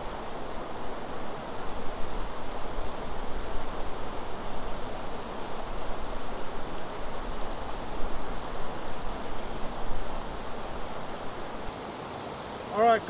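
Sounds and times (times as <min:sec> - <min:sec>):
wind rumbling on microphone: 0:00.0 - 0:11.7
river water rushing: 0:00.0 - 0:13.0.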